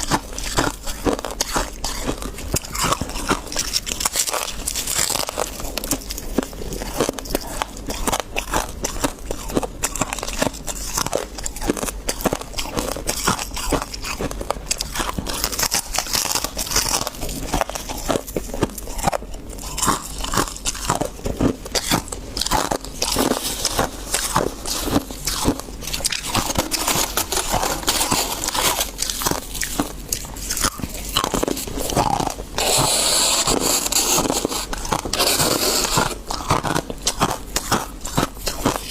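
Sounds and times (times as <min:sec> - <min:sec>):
chewing frost crunches: 0:00.0 - 0:38.9.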